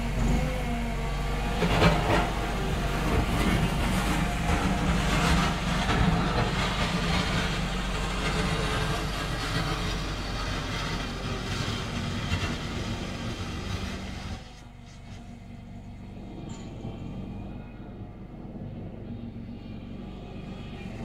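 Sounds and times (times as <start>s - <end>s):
wheel loader engine running: 0.0s - 21.0s.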